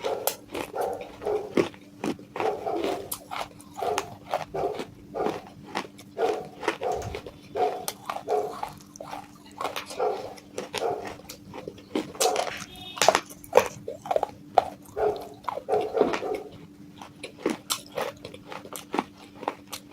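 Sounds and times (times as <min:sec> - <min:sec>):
crunching and chewing clay: 0:00.0 - 0:19.9.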